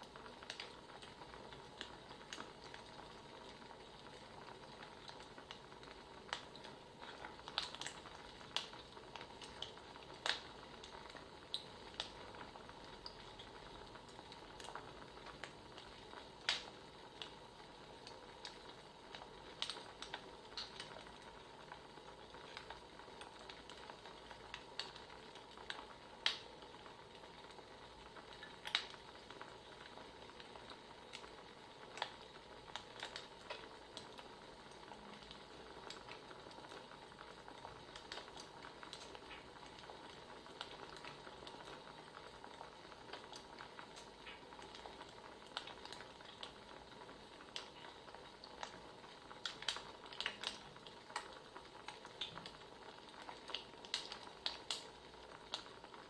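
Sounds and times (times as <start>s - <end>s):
soft steady hiss: 0.0s - 56.0s
wood fire crackling and popping: 0.0s - 56.0s.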